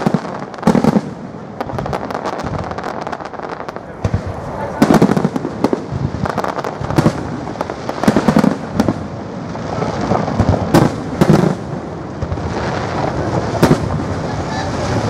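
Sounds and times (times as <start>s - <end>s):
continuous background noise: 0.0s - 15.0s
fireworks bangs: 0.0s - 15.0s.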